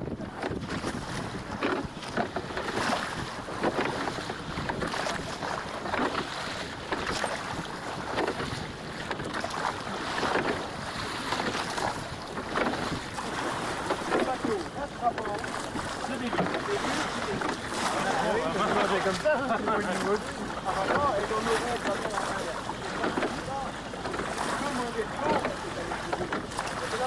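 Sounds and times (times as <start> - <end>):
water splashing along boat hull: 0.0 - 27.0
wind buffeting microphone: 0.0 - 27.0.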